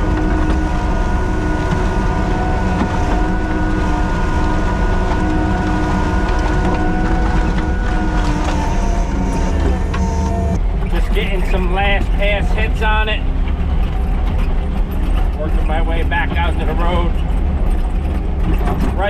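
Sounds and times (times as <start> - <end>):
diesel loader engine running: 0.0 - 19.0.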